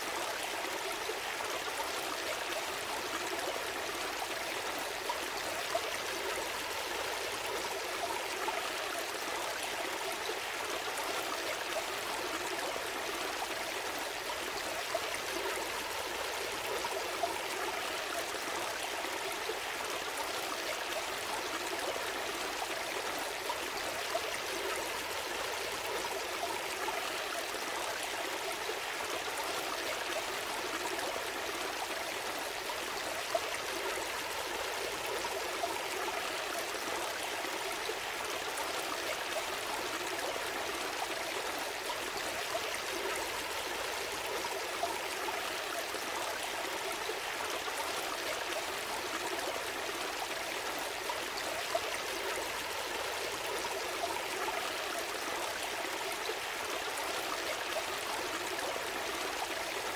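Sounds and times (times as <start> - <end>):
stream flowing and burbling: 0.0 - 59.9.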